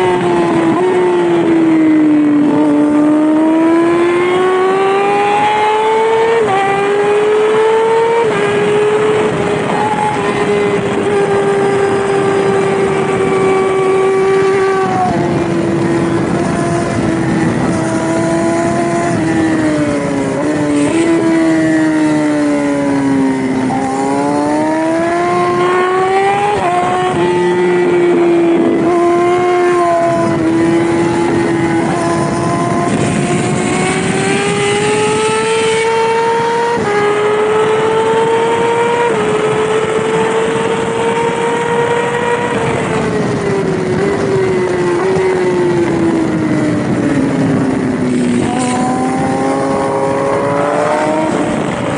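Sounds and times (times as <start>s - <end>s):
motorcycle engine at high revs: 0.0s - 51.9s
wind rush: 0.0s - 51.9s.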